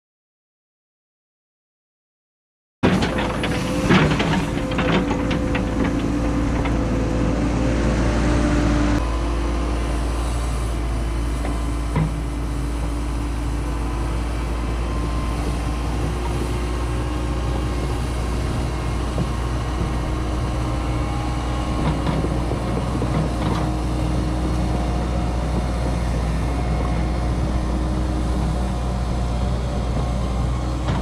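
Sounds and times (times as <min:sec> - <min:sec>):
excavator diesel engine running: 0:02.8 - 0:31.0.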